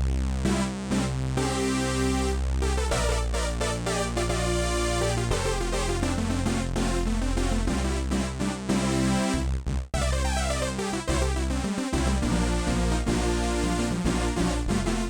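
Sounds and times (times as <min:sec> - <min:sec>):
held low synth bass notes: 0:00.0 - 0:15.0
synthesizer quick notes with falling sweeps: 0:00.5 - 0:09.4, 0:10.0 - 0:15.0.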